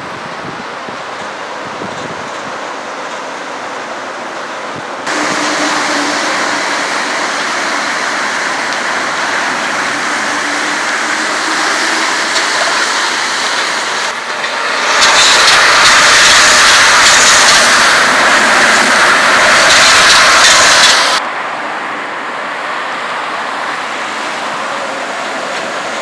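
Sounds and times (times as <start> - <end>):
train rushing on viaduct: 0.0 - 26.0.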